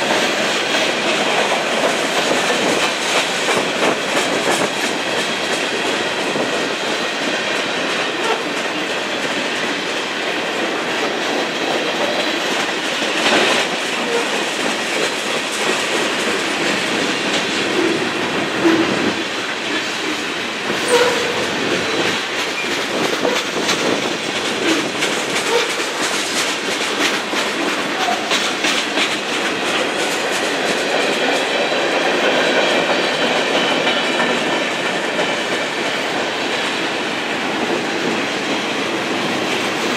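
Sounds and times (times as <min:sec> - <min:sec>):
freight train cars rolling: 0:00.0 - 0:39.9
wheels clicking over rail joints: 0:00.0 - 0:39.9.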